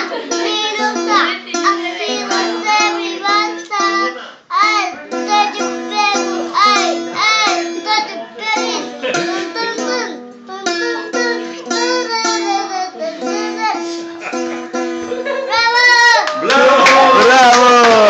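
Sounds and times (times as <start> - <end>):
child singing: 0.0 - 14.2, 15.5 - 16.3
plucked rhythmic accompaniment: 0.0 - 18.0.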